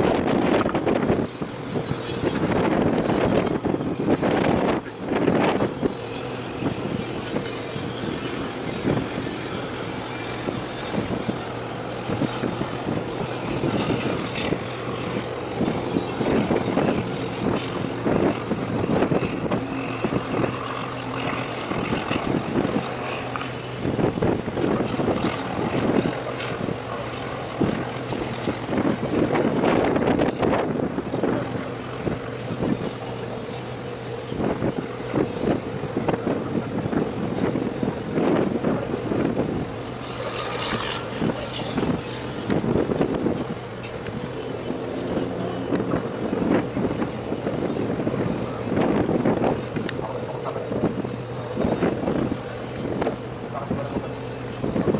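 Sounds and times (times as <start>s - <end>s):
boat diesel engines humming: 0.0s - 54.9s
uneven rushing noise: 0.0s - 54.9s.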